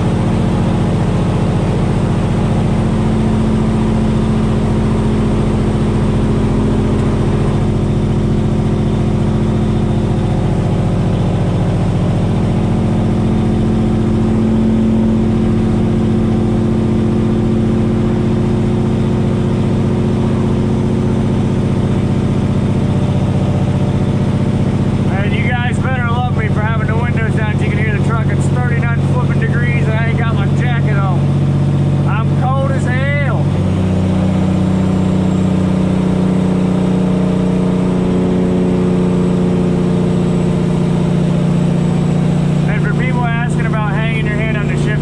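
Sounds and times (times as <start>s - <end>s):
diesel truck engine droning: 0.0s - 45.0s.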